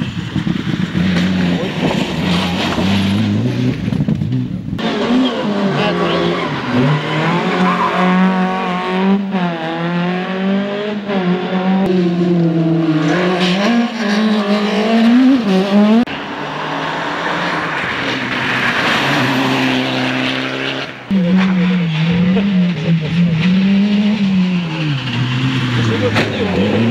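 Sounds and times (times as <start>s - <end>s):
rally car engines passing: 0.0s - 26.9s
tyre and road noise: 0.0s - 26.9s.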